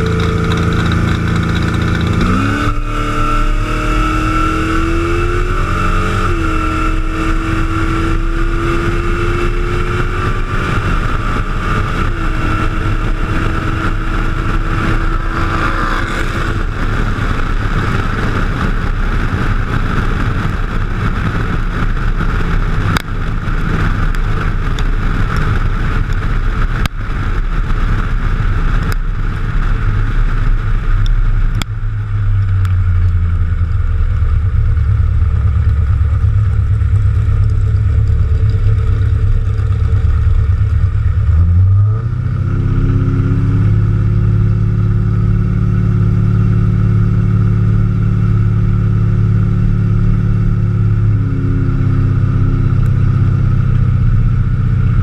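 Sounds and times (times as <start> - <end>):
car engine and exhaust: 0.0 - 55.0
wind noise on microphone: 0.0 - 55.0.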